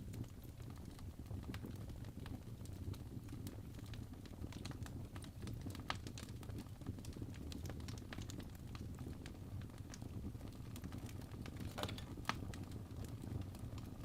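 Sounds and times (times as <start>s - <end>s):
fire popping and snapping: 0.0s - 14.0s
fireplace crackling: 0.0s - 14.0s.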